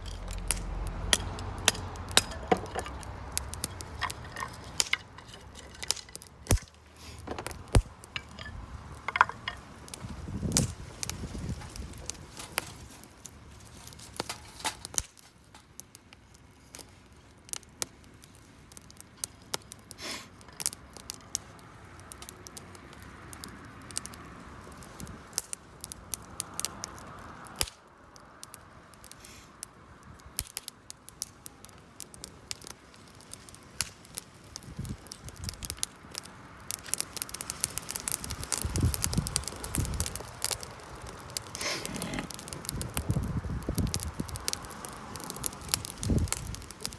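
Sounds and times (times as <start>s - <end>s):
fire hiss: 0.0s - 27.8s, 29.0s - 46.9s
campfire crackling and popping: 0.0s - 46.9s.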